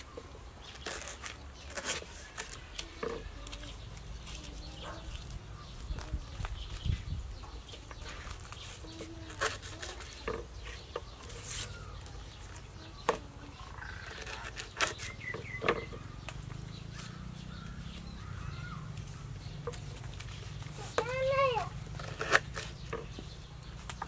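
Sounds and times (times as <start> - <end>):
faint bird calls: 0.0 - 24.0.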